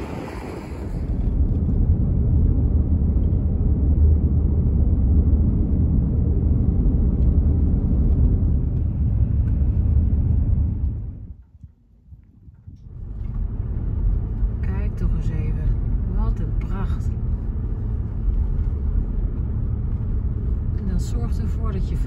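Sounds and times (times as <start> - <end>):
car interior road noise: 0.0 - 11.5, 12.2 - 22.0.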